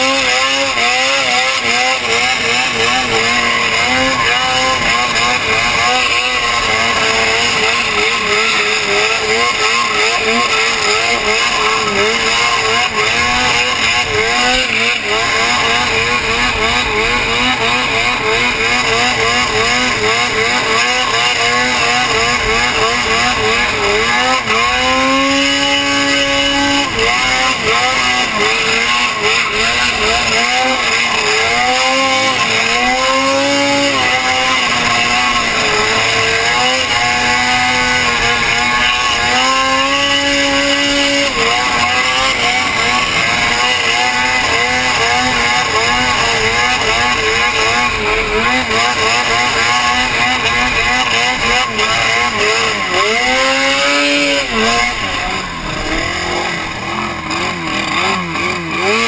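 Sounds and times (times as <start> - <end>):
snowmobile engine running hard: 0.0 - 59.0.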